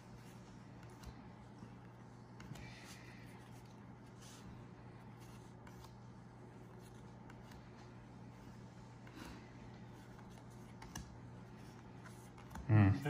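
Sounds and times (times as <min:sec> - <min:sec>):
soft swishes of sliding cards: 0:00.0 - 0:12.6
steady low hum: 0:00.0 - 0:13.0.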